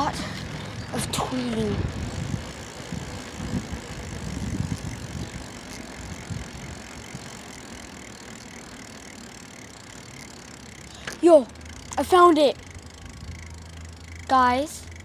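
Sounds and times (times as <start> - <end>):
bicycle riding rumble and hiss: 0.0 - 15.0.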